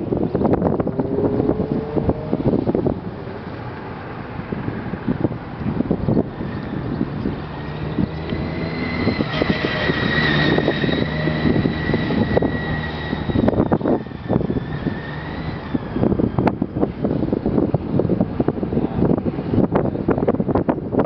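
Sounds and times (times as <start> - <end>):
car engine whining: 0.0 - 20.7
wind gusts on microphone: 0.0 - 21.0.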